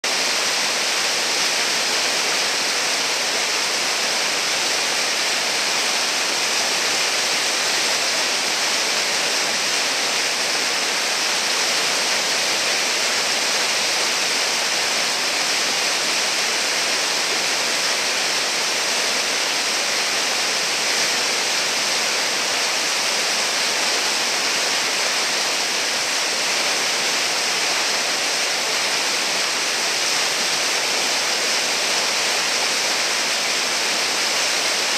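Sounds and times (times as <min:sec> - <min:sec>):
whitewater rushing over a ledge: 0:00.1 - 0:34.9.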